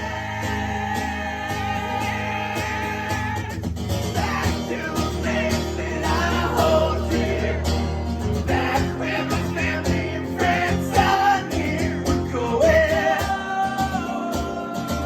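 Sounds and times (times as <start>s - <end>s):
man singing: 0.0s - 7.8s, 8.4s - 15.0s
strummed guitar: 0.0s - 15.0s.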